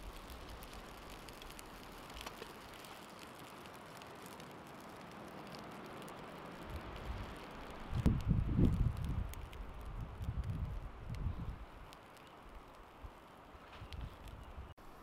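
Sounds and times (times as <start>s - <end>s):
faint outdoor hiss: 0.0s - 15.0s
low wind rumble: 0.0s - 15.0s.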